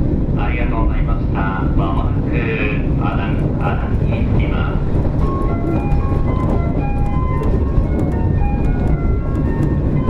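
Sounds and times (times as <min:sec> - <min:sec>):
diesel railcar rumble: 0:00.0 - 0:10.0.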